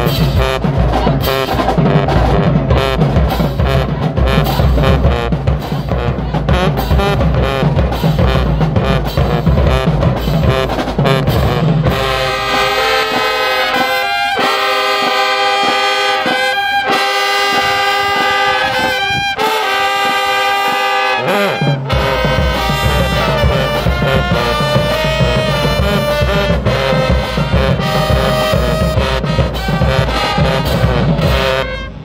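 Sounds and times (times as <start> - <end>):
drums driving beat: 0.0 - 32.0
sustained brass chords: 0.0 - 32.0.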